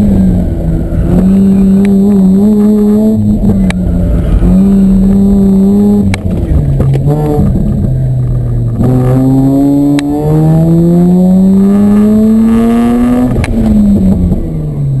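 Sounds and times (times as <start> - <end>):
rotary engine accelerating: 0.0 - 15.0.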